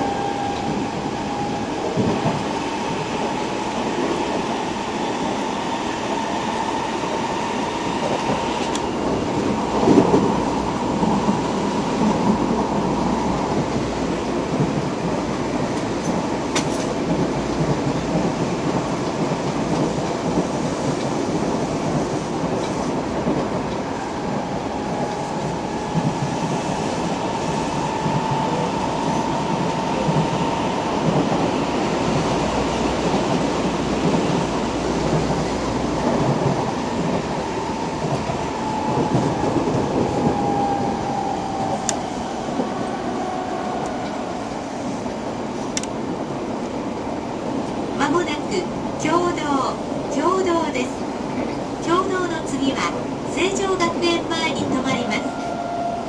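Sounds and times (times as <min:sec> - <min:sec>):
subway wheels and motors rumbling: 0:00.0 - 0:56.0.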